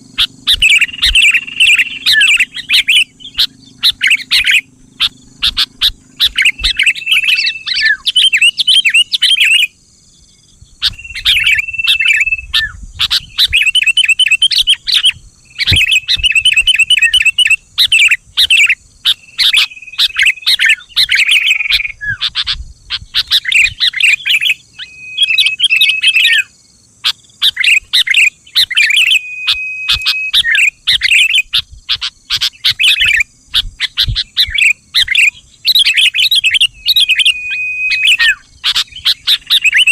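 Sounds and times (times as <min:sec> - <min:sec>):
bird chattering and whistling: 0:00.0 - 0:09.8, 0:10.7 - 0:39.9.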